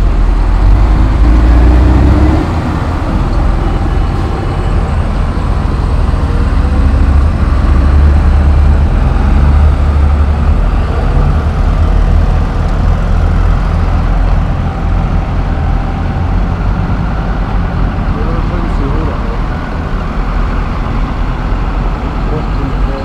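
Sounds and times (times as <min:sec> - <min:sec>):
tractor engines rumbling past: 0:00.0 - 0:23.0.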